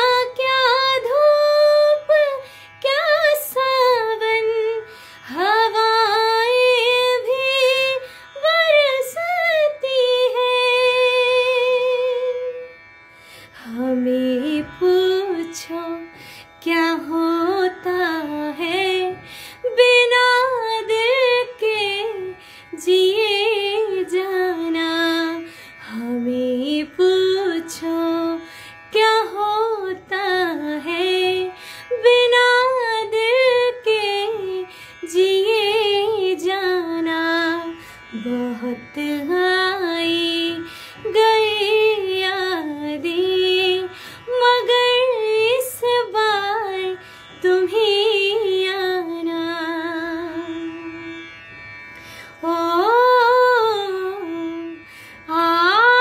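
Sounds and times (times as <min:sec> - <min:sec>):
woman singing slow song: 0:00.0 - 0:12.7, 0:13.6 - 0:51.2, 0:52.4 - 0:56.0.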